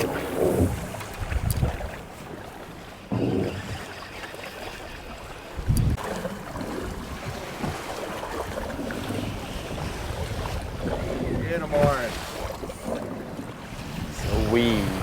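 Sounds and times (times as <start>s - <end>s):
wind buffeting microphone: 0.0s - 4.1s, 5.0s - 15.0s
water washing against hull: 0.0s - 15.0s.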